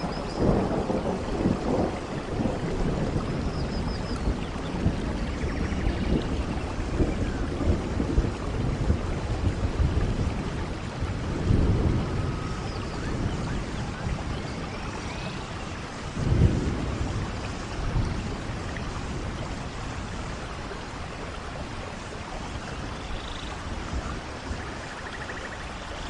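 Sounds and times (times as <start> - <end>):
thunder rumbling: 0.0 - 25.7
steady rain falling: 0.0 - 26.0.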